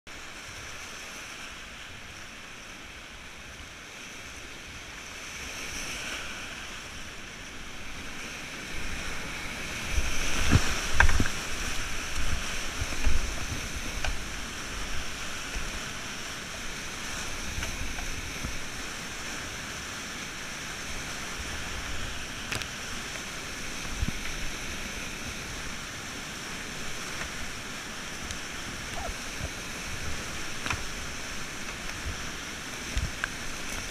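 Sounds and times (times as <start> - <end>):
churning whitewater rushing: 0.1 - 33.9.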